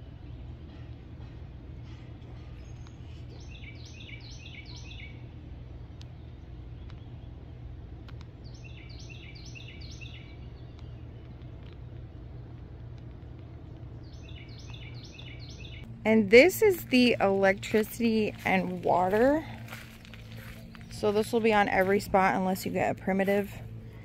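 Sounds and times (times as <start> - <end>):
low background rumble: 0.0 - 24.0
songbird singing: 1.8 - 24.0.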